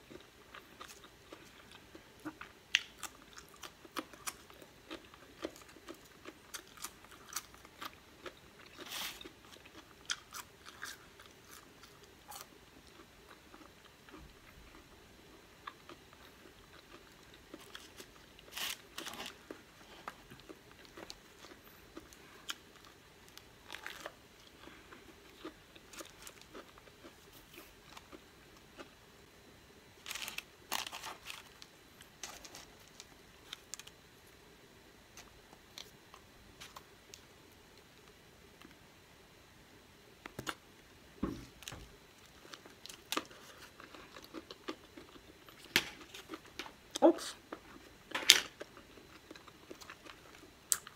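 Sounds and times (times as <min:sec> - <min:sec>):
person chewing and crunching: 0:00.0 - 0:29.0, 0:30.0 - 0:34.0, 0:41.6 - 0:50.9.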